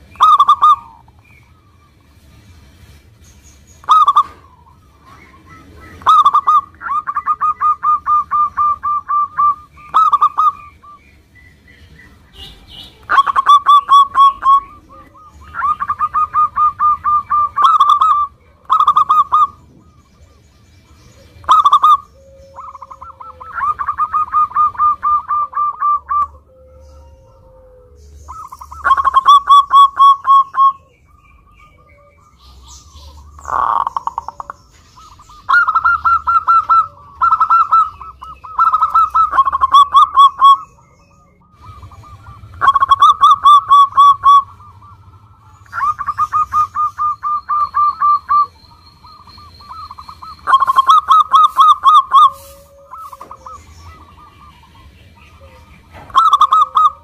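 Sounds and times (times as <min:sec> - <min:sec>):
dove cooing: 0:00.0 - 0:03.0, 0:03.8 - 0:57.0.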